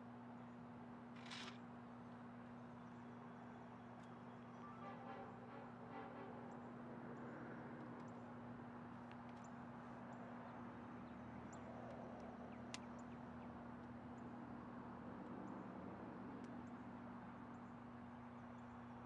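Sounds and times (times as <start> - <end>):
distant diesel locomotive drone: 1.0 - 19.0.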